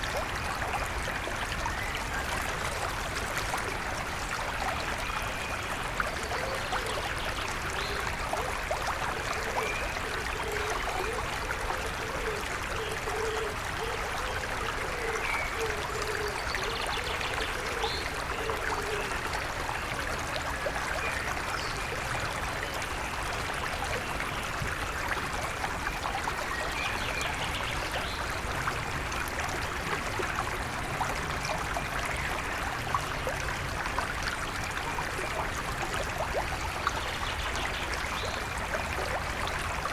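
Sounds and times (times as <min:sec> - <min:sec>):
river stream flowing: 0:00.0 - 0:39.9.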